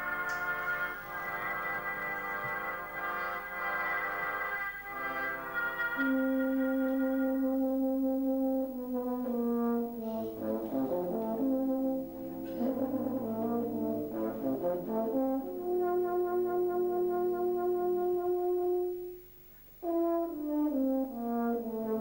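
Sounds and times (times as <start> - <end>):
euphonium solo melody: 0.0 - 19.0
soft brass band accompaniment: 0.0 - 22.0.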